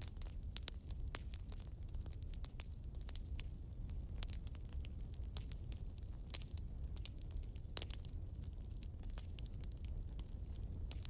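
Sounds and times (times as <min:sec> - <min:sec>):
low fire rumble: 0:00.0 - 0:11.0
wood fire crackling and popping: 0:00.0 - 0:11.0.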